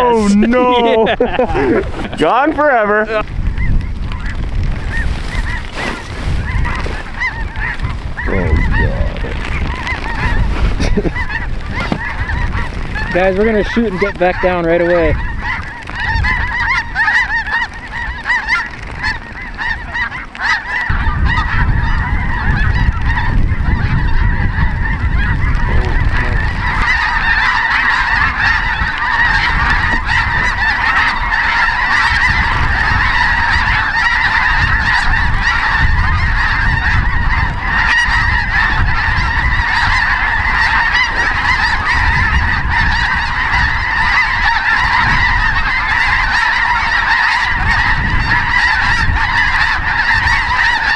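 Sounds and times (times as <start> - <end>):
geese yelping and honking: 0.0 - 50.9.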